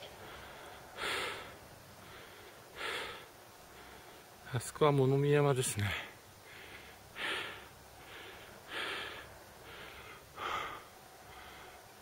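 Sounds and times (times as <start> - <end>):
person breathing hard: 0.2 - 4.2, 6.4 - 12.0.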